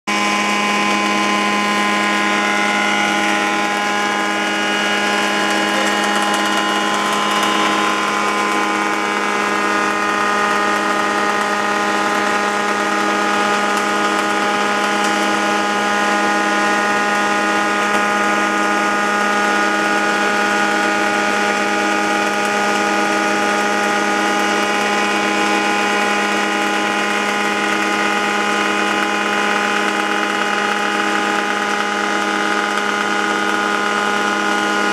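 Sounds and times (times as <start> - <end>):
woodworking machine motor hum: 0.1 - 34.9.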